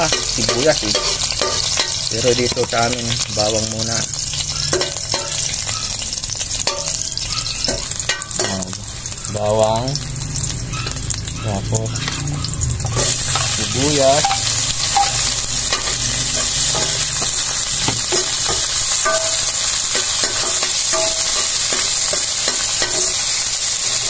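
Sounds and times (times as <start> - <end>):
metal spatula scraping a wok: 0.0 - 3.0, 3.7 - 9.1, 11.9 - 24.0
onion and garlic sizzling in oil: 0.0 - 24.0.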